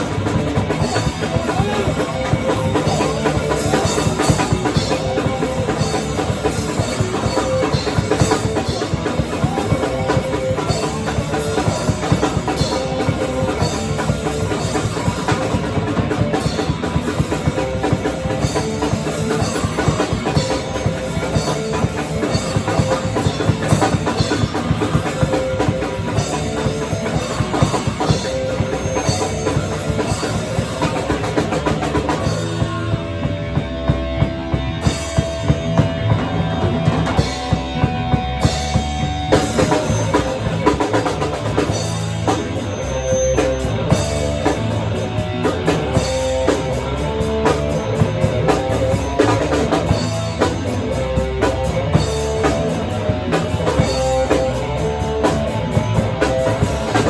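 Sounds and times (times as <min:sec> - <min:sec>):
drum kit pounding: 0:00.0 - 0:57.0
live rock band playing: 0:00.0 - 0:57.0.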